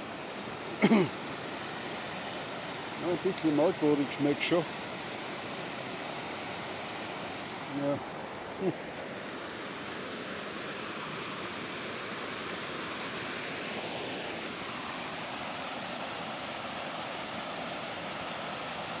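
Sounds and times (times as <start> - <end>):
waterfall pouring over rocks: 0.0 - 19.0.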